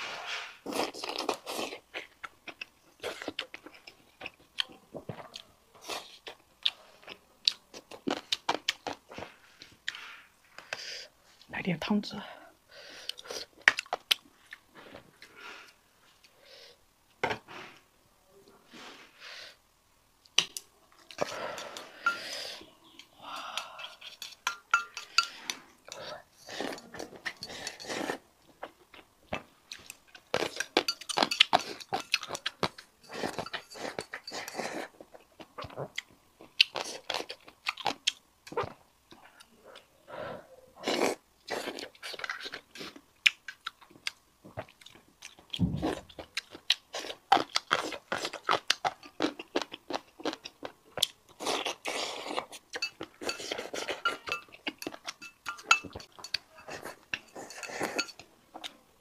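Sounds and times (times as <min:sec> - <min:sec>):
chewing and crunching food: 0:00.6 - 0:10.8, 0:13.0 - 0:16.4, 0:20.2 - 0:39.9, 0:40.8 - 0:59.0.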